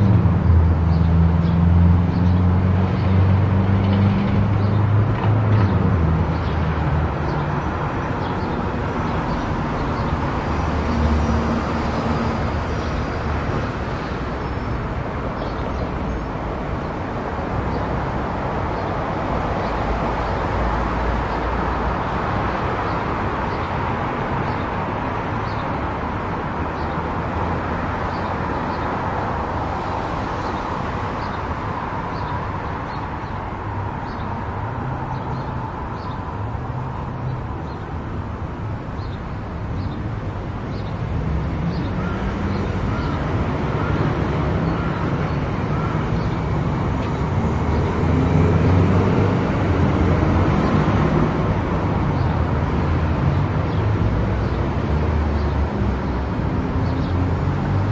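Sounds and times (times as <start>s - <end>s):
tyre and road noise: 0.0s - 57.9s.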